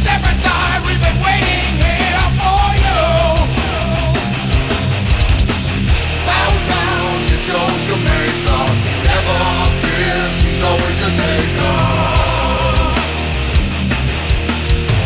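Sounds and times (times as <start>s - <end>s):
hard rock music: 0.0s - 15.0s.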